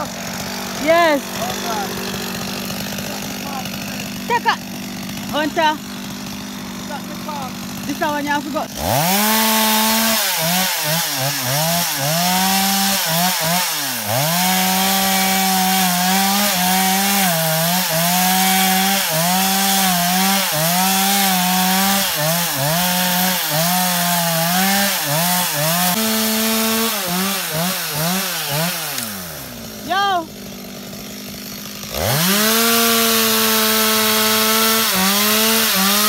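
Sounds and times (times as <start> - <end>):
chainsaw cutting brush: 0.0 - 36.0.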